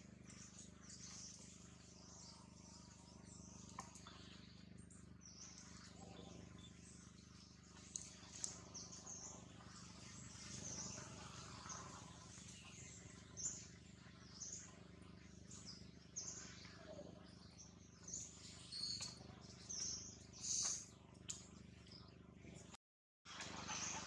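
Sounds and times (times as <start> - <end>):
faint high bird chirps: 0.0 - 22.7
steady low hum: 0.0 - 24.0.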